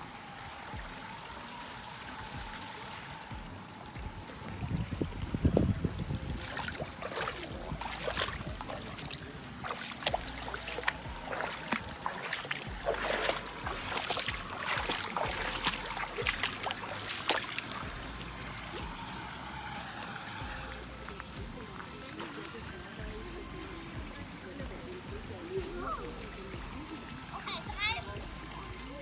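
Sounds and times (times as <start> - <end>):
sharp water splashes: 0.0 - 29.0
water sloshing and trickling: 0.0 - 29.0.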